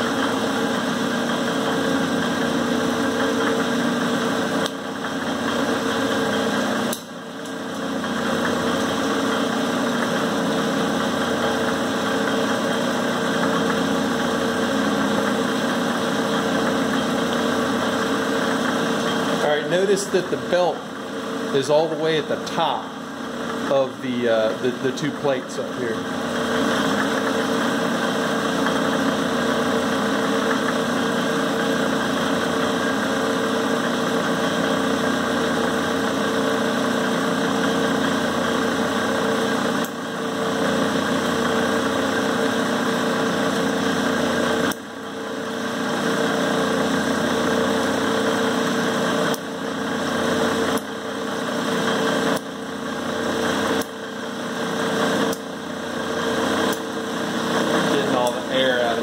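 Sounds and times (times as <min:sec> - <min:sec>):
metal lathe humming: 0:00.0 - 0:59.0.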